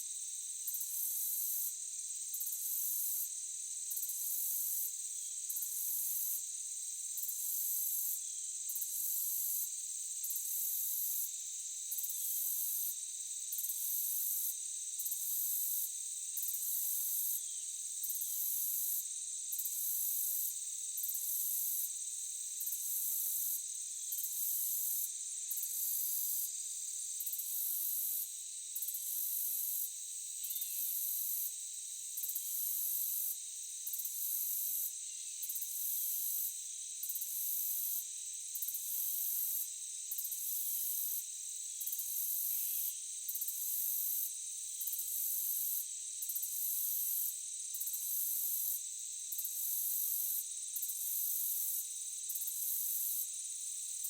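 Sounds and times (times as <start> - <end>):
insects trilling: 0.1 - 54.0.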